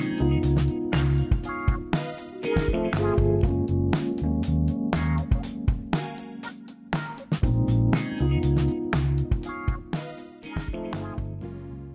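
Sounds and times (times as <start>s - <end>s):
guitar and drums music: 0.0s - 11.4s.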